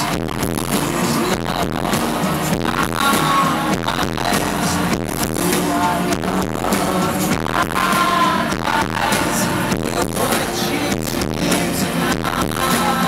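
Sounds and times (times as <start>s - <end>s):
man singing lead vocal: 0.0s - 13.0s
steady drum beat: 0.0s - 13.0s.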